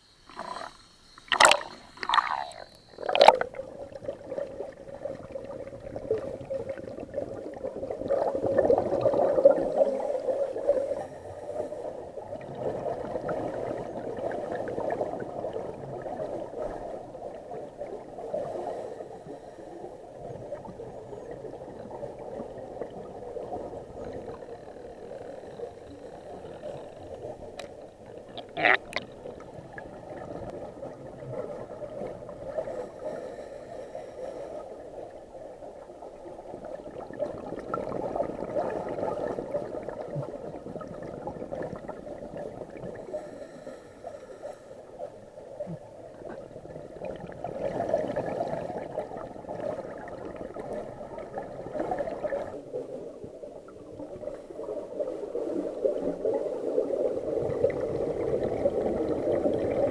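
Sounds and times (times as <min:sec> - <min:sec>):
muffled underwater bubbling: 0:00.0 - 0:59.9.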